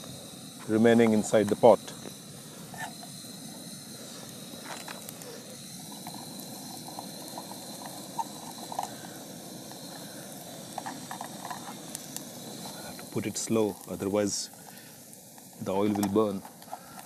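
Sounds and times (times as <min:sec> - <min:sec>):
bread sizzling in oil: 0:00.0 - 0:17.0.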